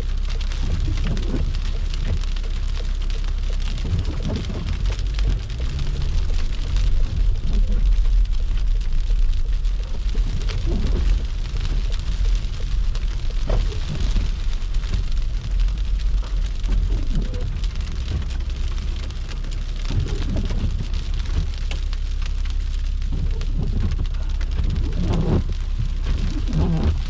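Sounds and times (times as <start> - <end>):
car driving on slushy road: 0.0 - 27.0.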